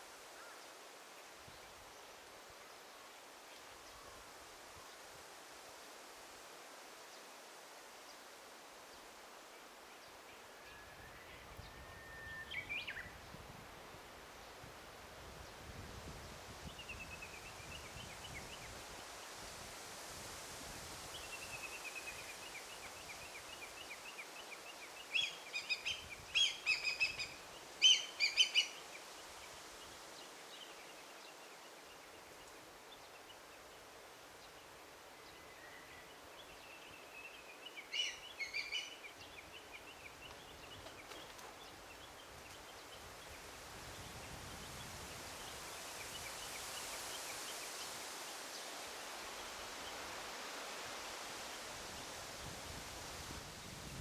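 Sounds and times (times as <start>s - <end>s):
forest ambience hiss: 0.0s - 54.0s.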